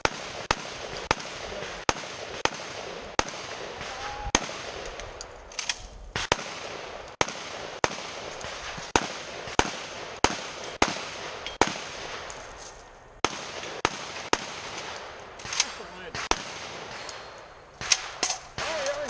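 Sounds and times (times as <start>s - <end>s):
gunshots from long gun: 0.0s - 12.3s, 13.2s - 19.0s.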